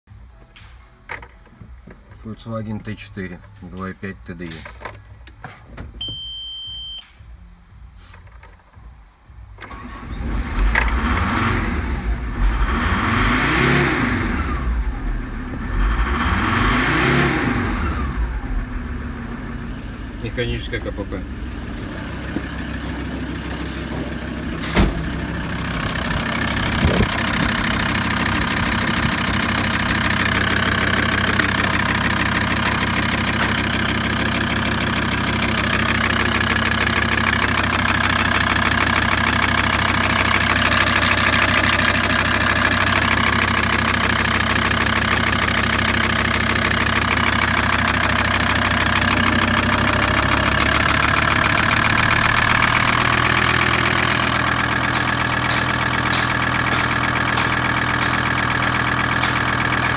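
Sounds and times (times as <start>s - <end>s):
diesel engine idling: 9.4s - 59.9s.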